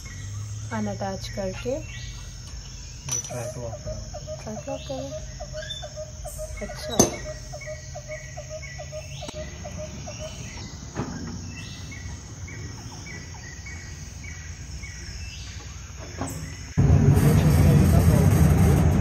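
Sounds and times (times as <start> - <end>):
low animal chirps: 0.0 - 16.8.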